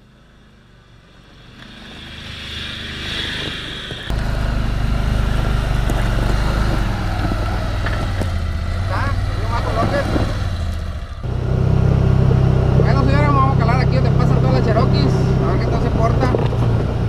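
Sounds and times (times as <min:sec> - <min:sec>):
off-road vehicle engine rumble: 0:00.0 - 0:17.0.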